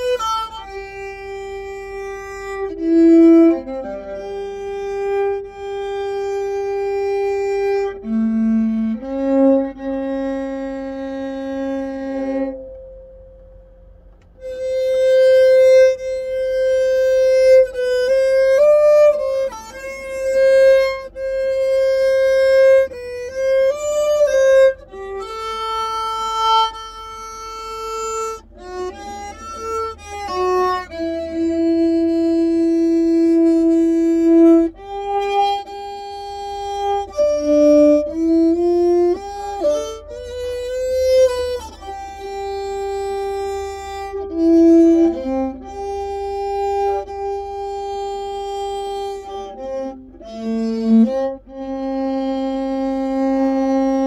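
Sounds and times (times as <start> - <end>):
solo violin slow melody: 0.0 - 54.0.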